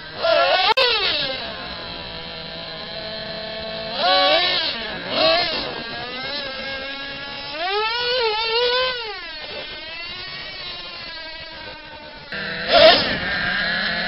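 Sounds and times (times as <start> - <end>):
small glow engines revving: 0.0 - 14.0.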